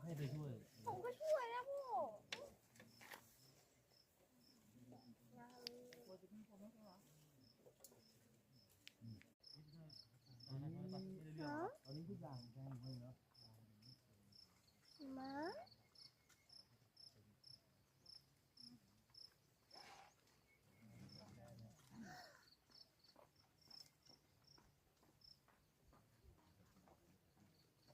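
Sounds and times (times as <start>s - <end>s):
cricket chirping: 0.0s - 6.4s, 7.4s - 25.6s.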